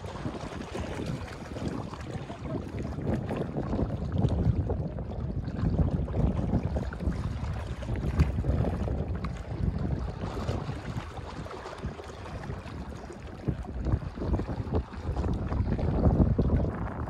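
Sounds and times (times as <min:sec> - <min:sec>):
small waves lapping on rocks: 0:00.0 - 0:16.7
wind buffeting microphone: 0:00.0 - 0:17.0.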